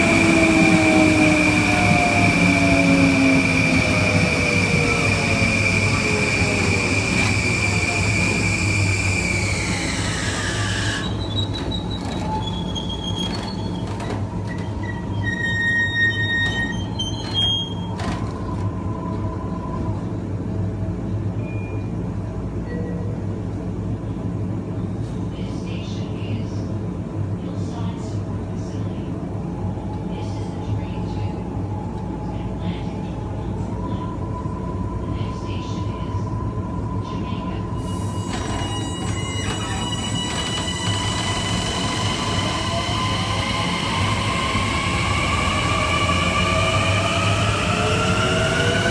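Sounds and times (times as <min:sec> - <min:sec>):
low train hum: 0:00.0 - 0:48.9.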